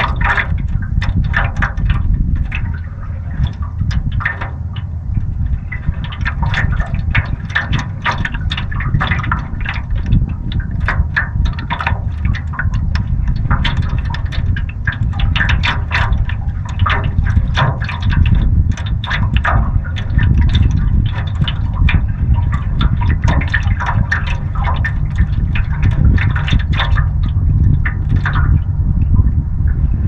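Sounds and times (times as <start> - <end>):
waves lapping against a canoe: 0.0 - 30.0
wind rumble on microphone: 0.0 - 30.0.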